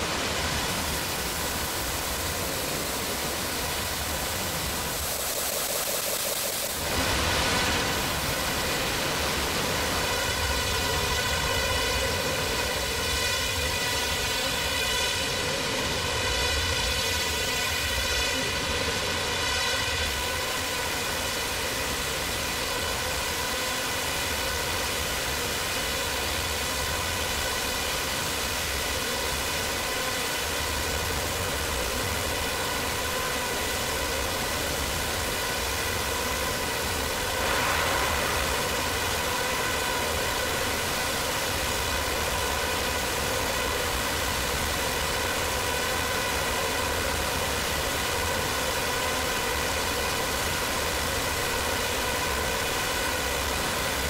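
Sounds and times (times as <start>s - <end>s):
noisy feedback drone with ringing tones: 0.0s - 54.0s.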